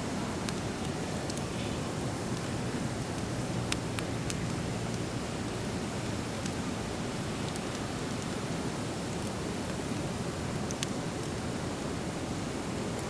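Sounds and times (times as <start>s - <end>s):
campfire crackling and popping: 0.1s - 13.0s.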